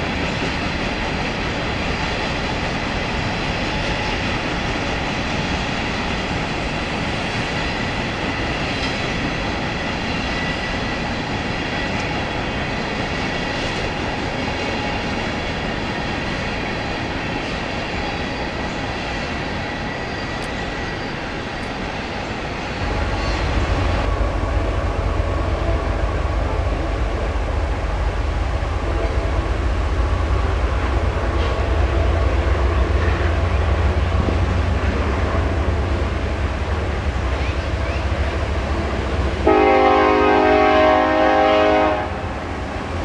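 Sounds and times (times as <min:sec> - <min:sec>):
steel wheels squealing on rail: 0:00.0 - 0:29.9, 0:30.5 - 0:43.0
heavy train rumble: 0:00.0 - 0:43.0.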